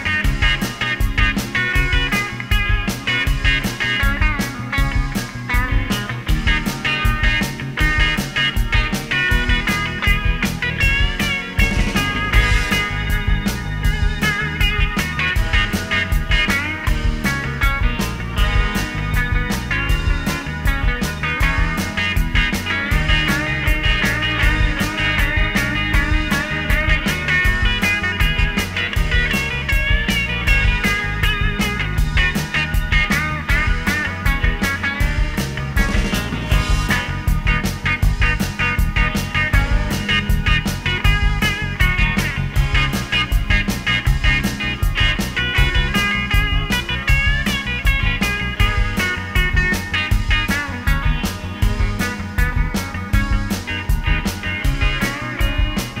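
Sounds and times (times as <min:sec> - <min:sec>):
driving drum beat: 0:00.0 - 0:56.0
rock music: 0:00.0 - 0:56.0.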